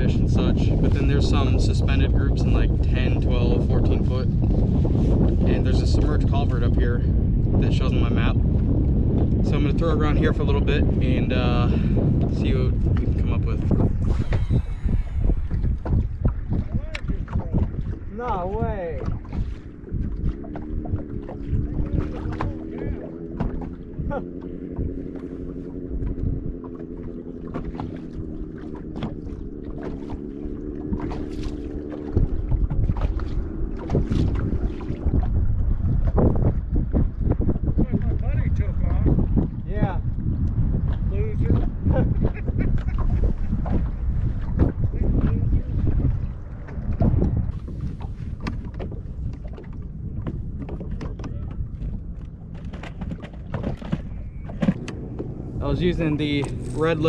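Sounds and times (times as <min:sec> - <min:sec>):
boat motor humming: 0:00.0 - 0:57.0
wind rumble on microphone: 0:00.0 - 0:57.0.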